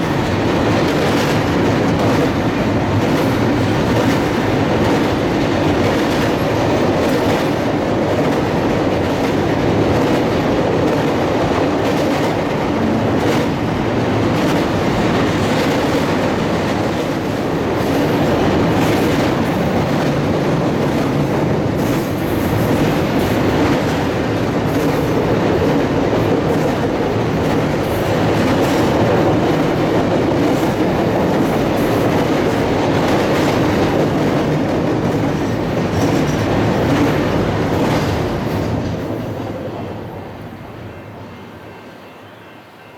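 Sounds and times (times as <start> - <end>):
freight train cars rolling: 0.0 - 42.9.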